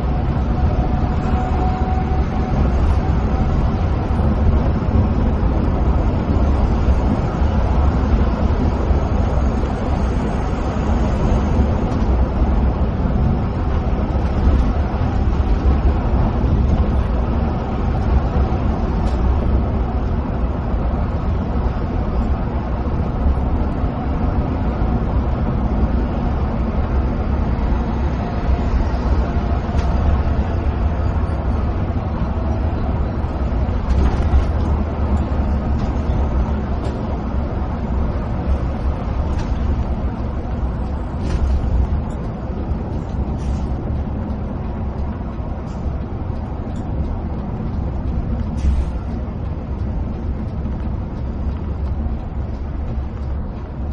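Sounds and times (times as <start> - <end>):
coach engine drone: 0.0 - 53.9
tyre and road noise: 0.0 - 53.9.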